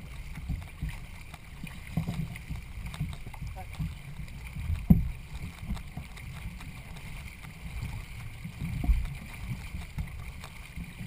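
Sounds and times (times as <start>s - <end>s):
canoe paddling: 0.0s - 11.0s
water against hull: 0.0s - 11.0s
wind rumbling on microphone: 0.0s - 11.0s.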